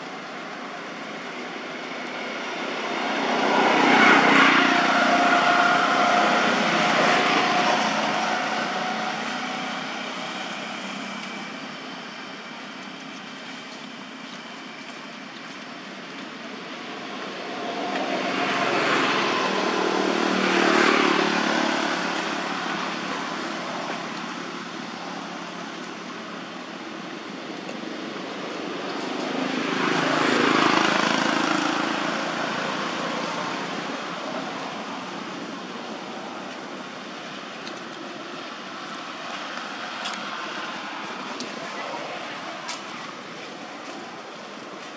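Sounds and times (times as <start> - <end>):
outdoor background noise: 0.0 - 44.9
road vehicles passing: 0.0 - 44.9.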